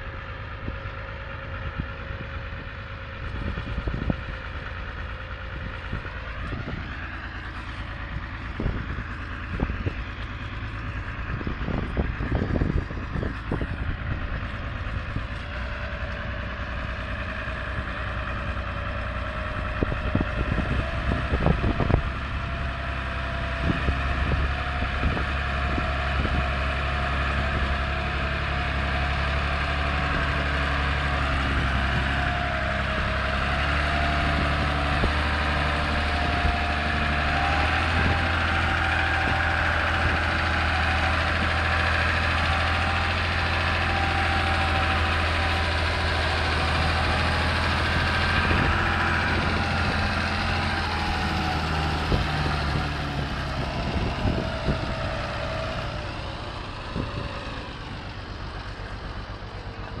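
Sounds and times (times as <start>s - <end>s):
tractor diesel engine under load: 0.0s - 60.0s.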